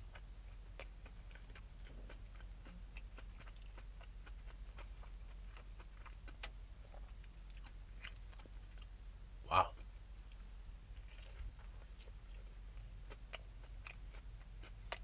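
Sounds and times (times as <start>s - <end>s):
chewing crunchy food: 0.0s - 15.0s
steady low hum: 0.0s - 15.0s.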